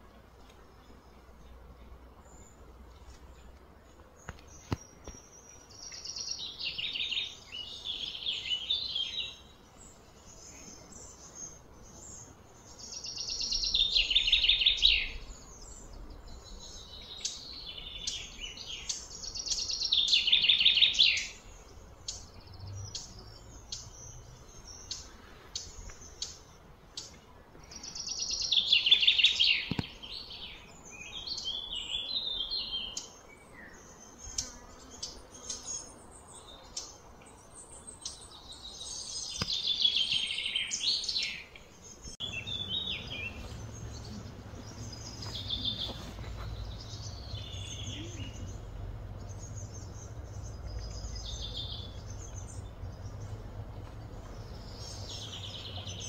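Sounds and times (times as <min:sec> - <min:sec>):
songbird singing: 0:00.0 - 0:56.0
bird chirps: 0:04.2 - 0:56.0.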